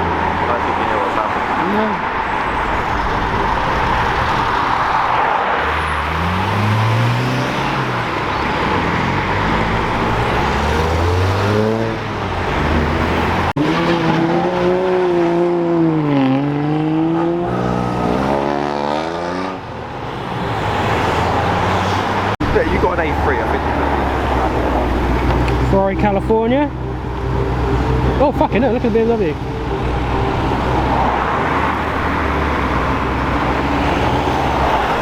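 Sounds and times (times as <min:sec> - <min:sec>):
car engines revving and accelerating: 0:00.0 - 0:35.0.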